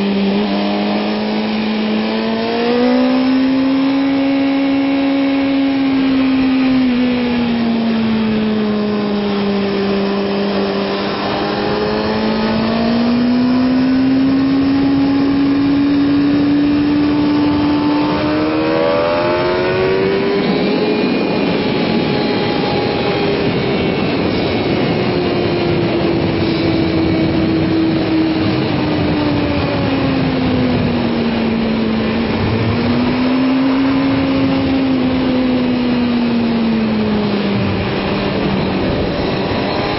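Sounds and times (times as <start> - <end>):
motorcycle engine at high revs: 0.0 - 39.9
rushing noise: 0.0 - 39.9.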